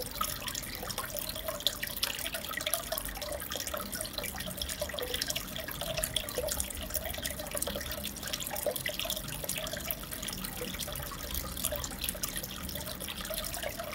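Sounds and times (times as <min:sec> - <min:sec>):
aquarium water trickling and bubbling: 0:00.0 - 0:13.9
water drips and splashes: 0:00.0 - 0:13.9.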